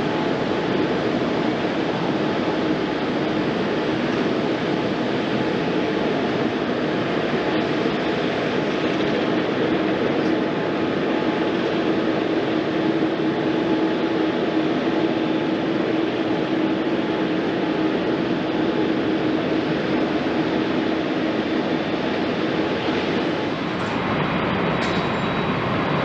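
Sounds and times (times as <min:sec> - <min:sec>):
constant hum: 0:00.0 - 0:26.0
jet engines rushing: 0:00.0 - 0:26.0.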